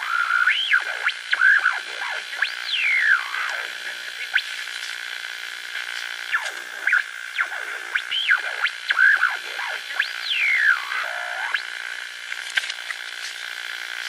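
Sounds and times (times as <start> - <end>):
thin static: 0.0 - 14.0.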